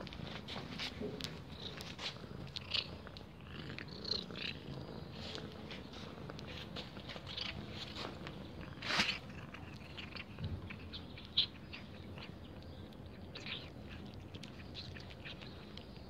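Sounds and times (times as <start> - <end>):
cat chewing and licking: 0.0 - 16.0.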